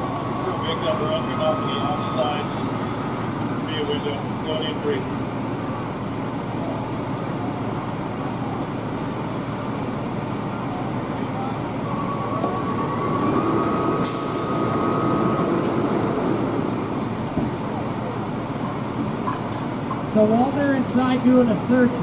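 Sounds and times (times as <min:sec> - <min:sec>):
engine idling rumble: 0:00.0 - 0:22.0.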